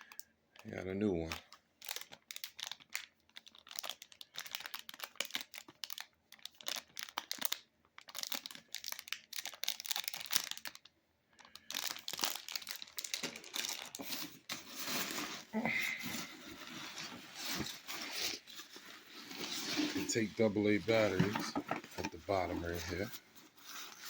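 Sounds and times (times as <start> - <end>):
plastic bag crinkling: 1.2 - 24.0.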